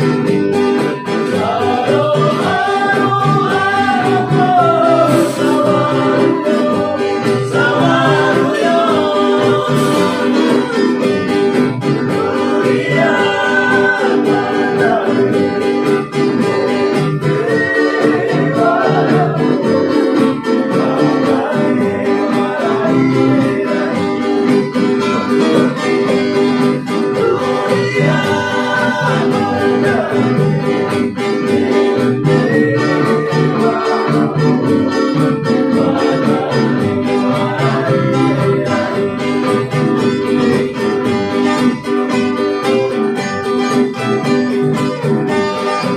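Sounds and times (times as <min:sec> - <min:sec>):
strummed acoustic guitars: 0:00.0 - 0:45.9
ukulele: 0:00.0 - 0:45.9
voices singing: 0:00.0 - 0:45.9.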